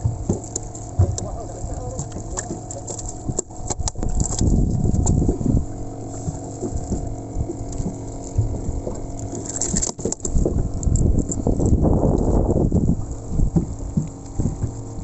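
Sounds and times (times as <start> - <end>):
low rumbling buffeting: 0.0 - 15.0
motor humming: 0.0 - 15.0
water noise: 0.0 - 15.0.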